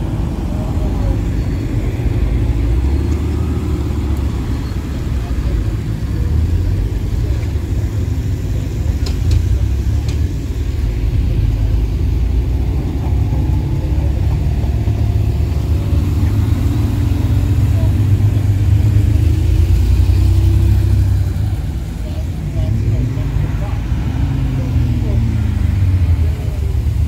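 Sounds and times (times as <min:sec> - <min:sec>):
cars rumbling past: 0:00.0 - 0:27.0.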